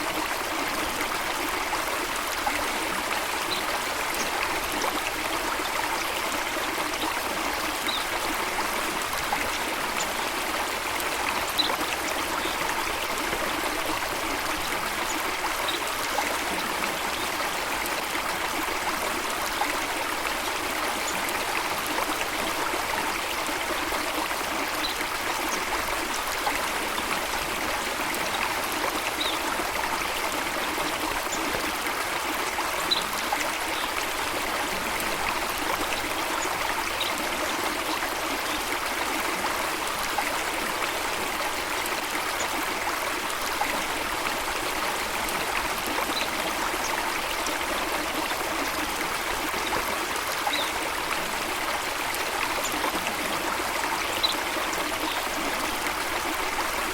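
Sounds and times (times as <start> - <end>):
water flowing: 0.0 - 56.9.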